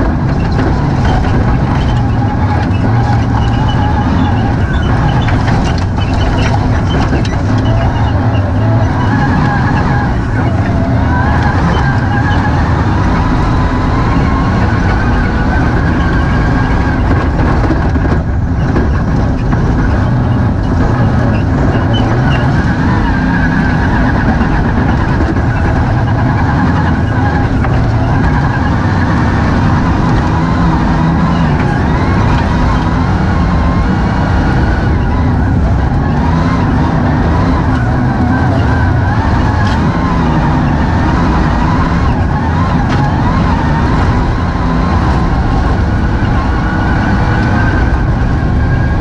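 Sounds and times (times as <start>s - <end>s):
car engine revving: 0.0s - 49.0s
road and wind noise: 0.0s - 49.0s.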